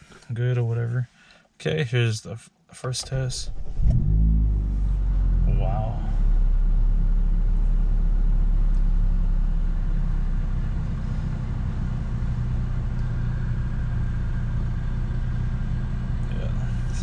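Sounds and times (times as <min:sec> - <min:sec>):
car engine idling: 0:03.0 - 0:17.0.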